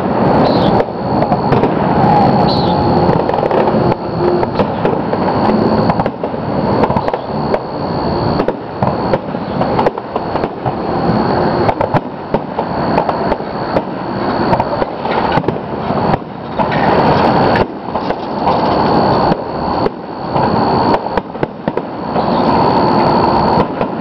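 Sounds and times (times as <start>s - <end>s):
firework bangs and crackles: 0.0s - 24.0s
firework shells booming: 0.0s - 24.0s.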